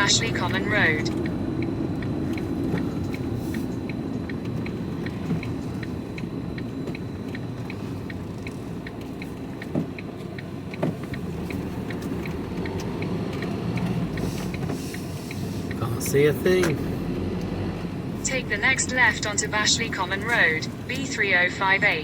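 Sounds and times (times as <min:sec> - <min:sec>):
turn signal ticking: 0:00.0 - 0:22.0
vehicle driving rumble: 0:00.0 - 0:22.0.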